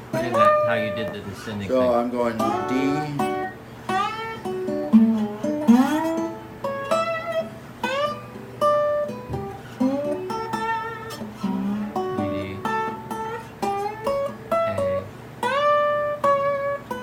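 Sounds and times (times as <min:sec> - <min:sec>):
guitar plucking lead notes: 0:00.0 - 0:17.0.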